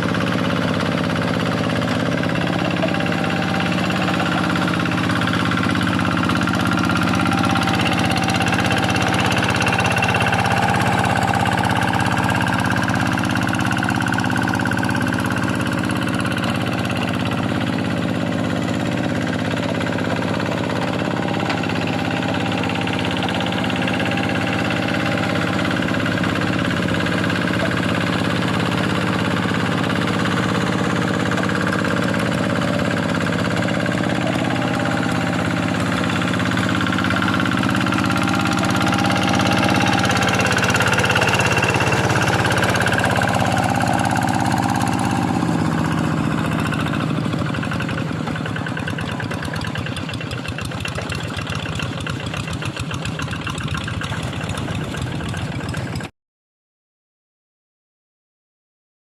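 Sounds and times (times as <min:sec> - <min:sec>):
diesel engine running: 0:00.0 - 0:56.1.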